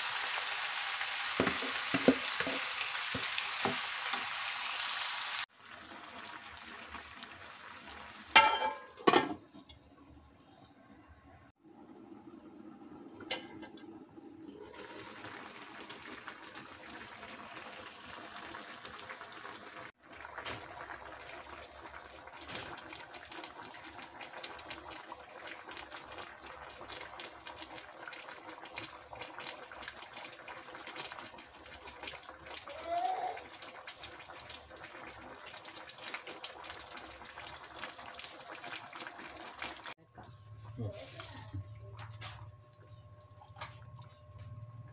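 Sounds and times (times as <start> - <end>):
broth simmering in a pan: 0.0 - 44.9.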